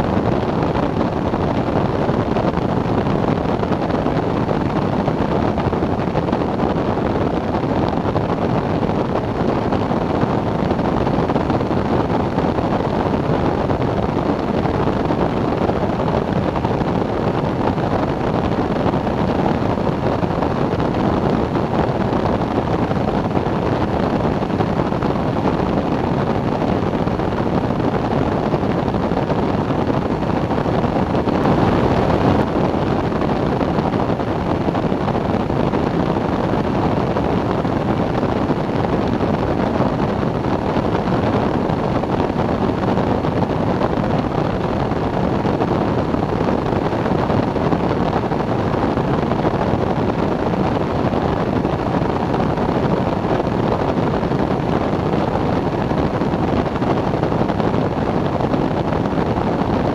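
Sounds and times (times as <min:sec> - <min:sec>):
engine and propeller drone: 0:00.0 - 0:59.9
wind rushing over microphone: 0:00.0 - 0:59.9.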